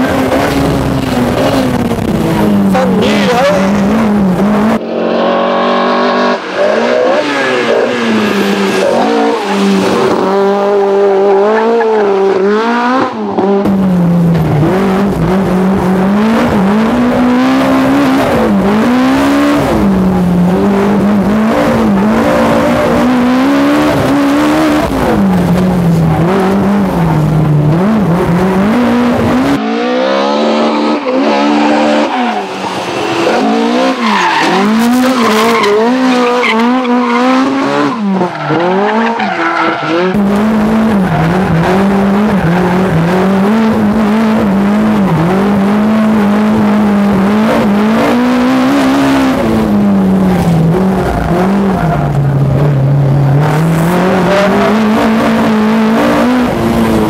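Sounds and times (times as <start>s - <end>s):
car engine revving high: 0.0s - 57.0s
heavy road rumble: 0.0s - 57.0s.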